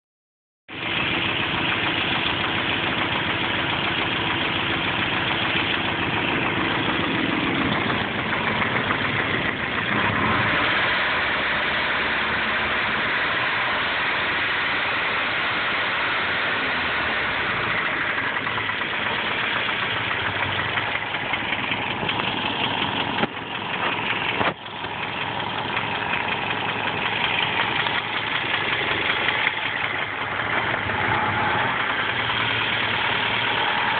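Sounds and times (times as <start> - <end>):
engine idling with knocking rattle: 0.7 - 33.9.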